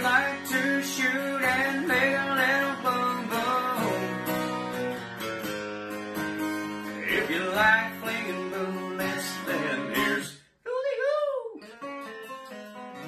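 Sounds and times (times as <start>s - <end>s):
acoustic guitar music: 0.0s - 10.6s, 11.6s - 13.0s.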